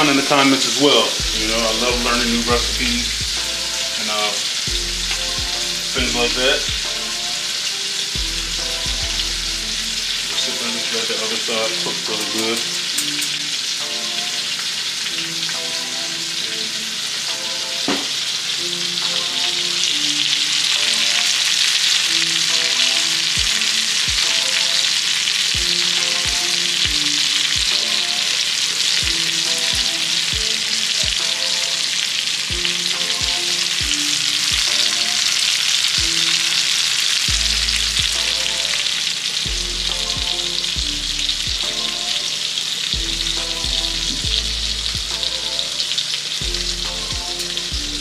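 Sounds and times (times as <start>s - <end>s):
fish sizzling in hot oil: 0.0s - 48.0s
quiet background music with beat: 0.0s - 48.0s.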